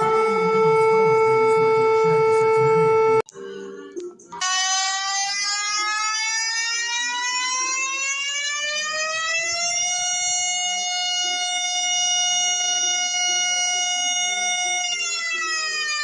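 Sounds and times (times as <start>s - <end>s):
rising alert siren: 0.0s - 3.2s, 4.4s - 16.0s.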